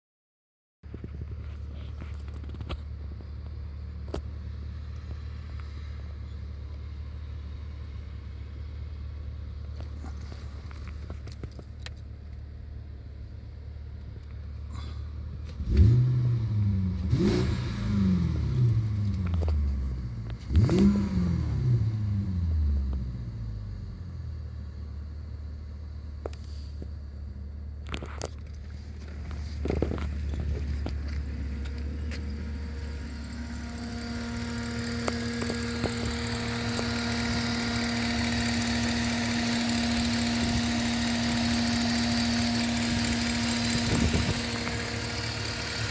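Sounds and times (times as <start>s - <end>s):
car engine revving and idling: 0.9s - 45.9s.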